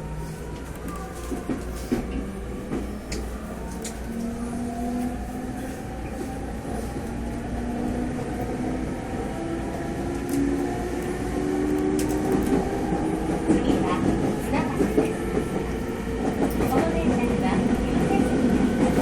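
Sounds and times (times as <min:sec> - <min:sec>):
rail running noise: 0:00.0 - 0:19.0.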